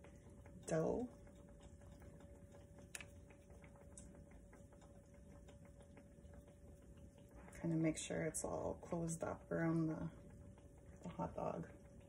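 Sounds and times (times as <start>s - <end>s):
dough crackling in hot oil: 0.0s - 12.0s.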